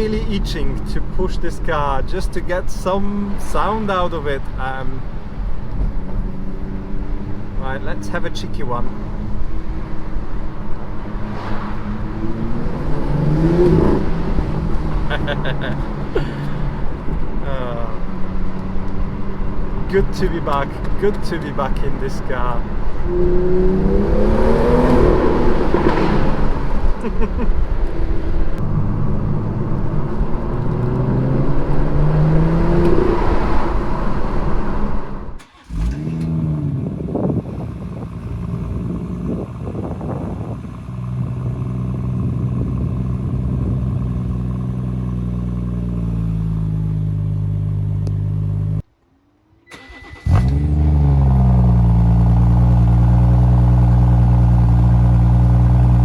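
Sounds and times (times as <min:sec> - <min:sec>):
car engine accelerating hard: 0:05.7 - 0:48.8, 0:49.8 - 0:56.0.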